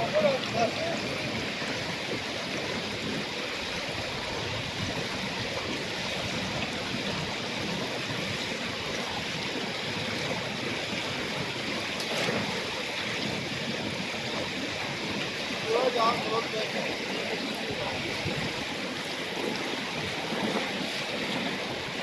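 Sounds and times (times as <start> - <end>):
stream water flowing: 0.0 - 22.0.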